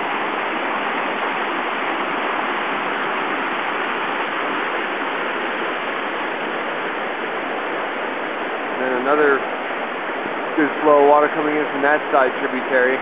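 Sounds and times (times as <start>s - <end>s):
creek rushing: 0.0s - 13.0s.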